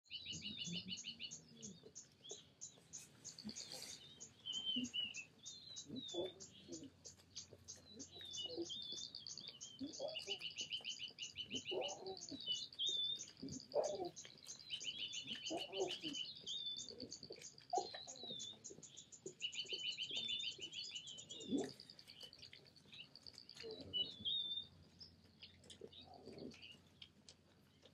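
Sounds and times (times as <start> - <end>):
birds chirping and trilling: 0.0 - 27.1
lion cubs calling: 0.3 - 24.7.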